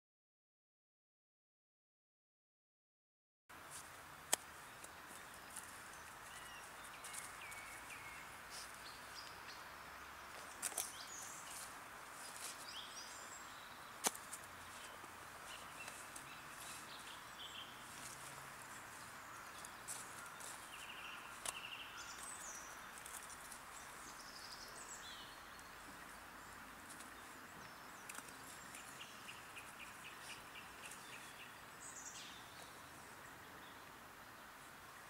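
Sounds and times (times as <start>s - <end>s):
birds chirping: 3.5s - 35.0s
steady background noise: 3.5s - 35.0s.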